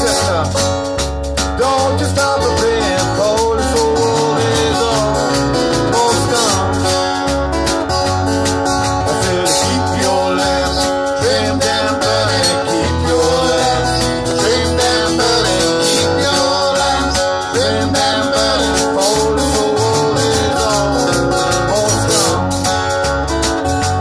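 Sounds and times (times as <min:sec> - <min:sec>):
acoustic guitar strumming: 0:00.0 - 0:24.0
drums beating: 0:00.0 - 0:24.0
electric guitar: 0:00.0 - 0:24.0
sliding bent guitar lead: 0:00.0 - 0:24.0.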